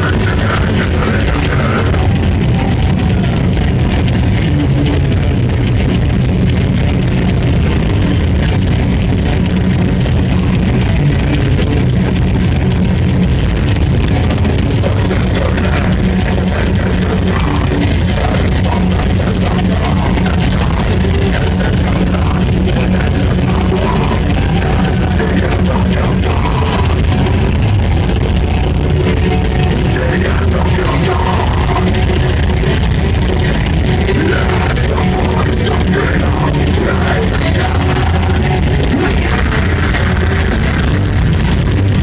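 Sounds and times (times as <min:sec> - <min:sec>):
metal band playing live: 0:00.0 - 0:42.0.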